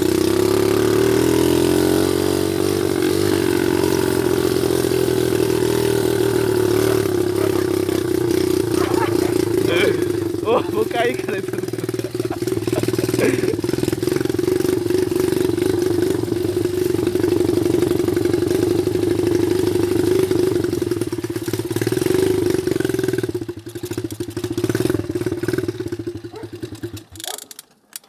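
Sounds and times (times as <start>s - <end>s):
dirt bike engine running and stalling: 0.0s - 28.0s.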